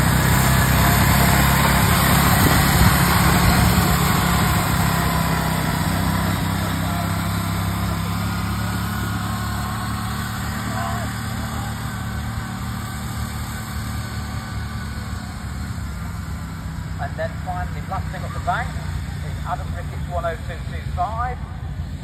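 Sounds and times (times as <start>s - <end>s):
locomotive engine passing by: 0.0s - 22.0s.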